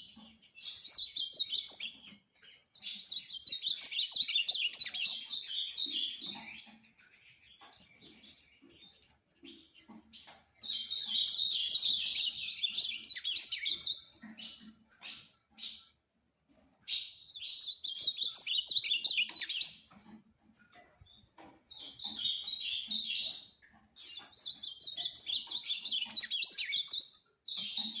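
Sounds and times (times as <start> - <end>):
bird singing warbled phrases: 0.0 - 16.0, 16.8 - 28.0.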